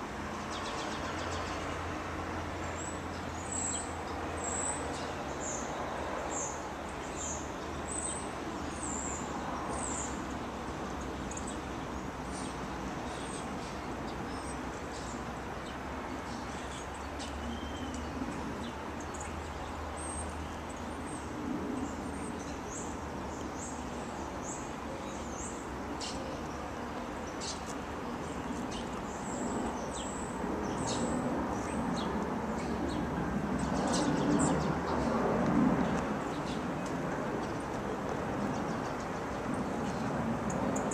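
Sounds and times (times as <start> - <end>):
outdoor background noise: 0.0 - 40.9
small songbirds chirping: 0.4 - 35.2, 35.8 - 40.9.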